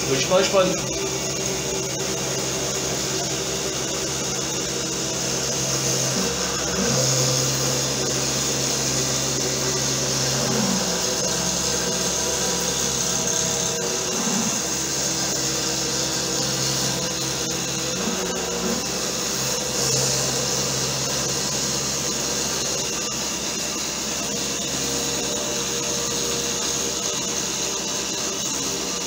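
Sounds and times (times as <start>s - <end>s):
router spindle milling plywood: 0.0s - 29.0s.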